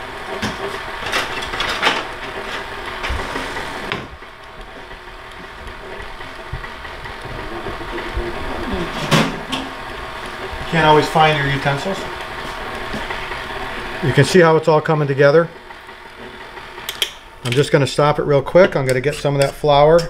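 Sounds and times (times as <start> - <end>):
stand mixer motor humming: 0.0 - 18.1.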